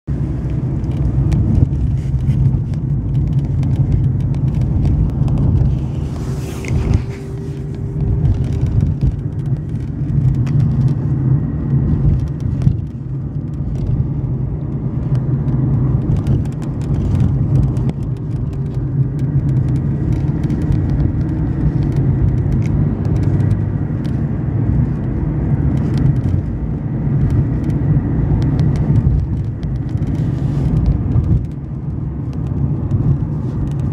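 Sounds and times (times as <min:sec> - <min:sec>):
car road rumble: 0:00.0 - 0:33.9
car body creaks and clicks: 0:00.1 - 0:33.9.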